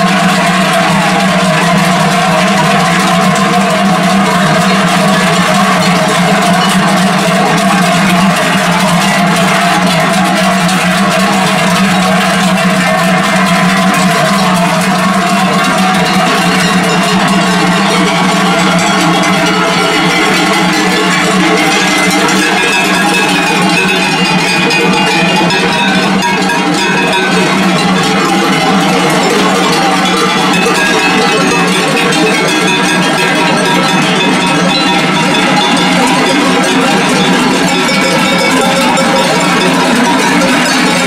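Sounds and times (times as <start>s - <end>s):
cowbells clanging: 0.0s - 41.0s.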